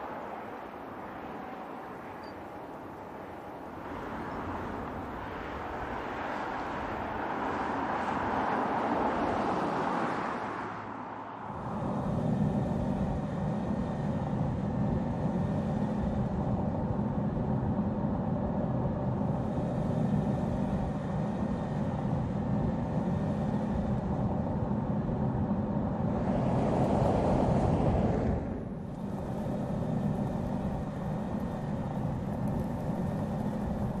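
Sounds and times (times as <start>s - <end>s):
car engine hum: 0.0s - 34.0s.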